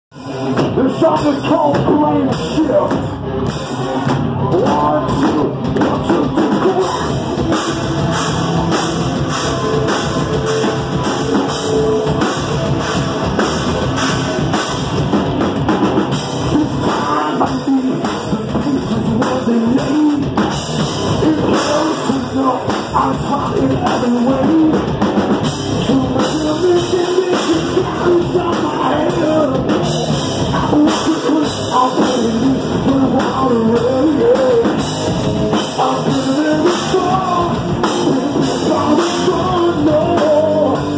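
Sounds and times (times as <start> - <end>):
drum kit: 0.1 - 40.9
electric guitar: 0.1 - 40.9
person singing: 0.5 - 14.0, 16.2 - 25.1, 25.7 - 40.9.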